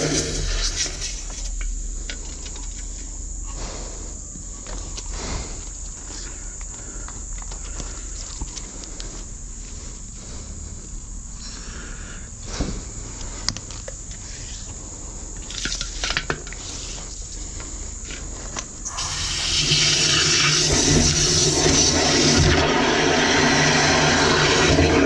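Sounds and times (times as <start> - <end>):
insect trilling: 0.0 - 25.0.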